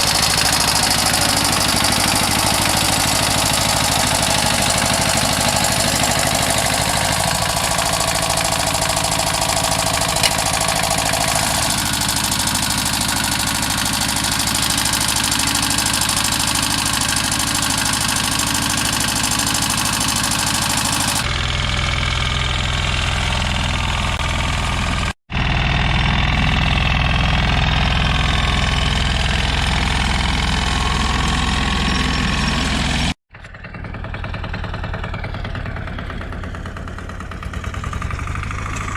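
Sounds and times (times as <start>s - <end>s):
small tractor engines running: 0.0s - 38.9s.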